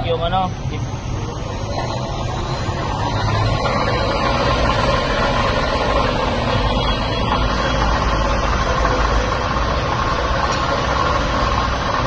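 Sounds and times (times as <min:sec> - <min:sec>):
faint steady whine: 0:00.0 - 0:12.0
machine hum: 0:00.0 - 0:12.0.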